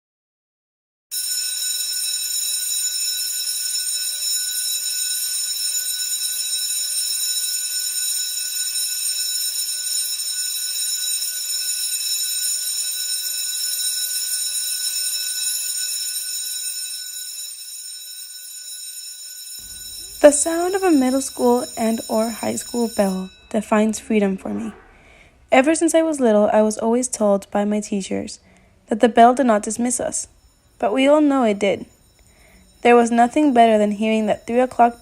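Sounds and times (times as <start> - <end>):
school bell ringing: 1.1 - 25.2, 29.4 - 35.0.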